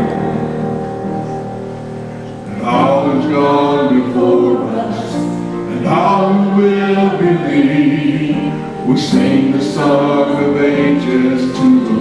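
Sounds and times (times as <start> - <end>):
group singing worship song: 0.0 - 12.0.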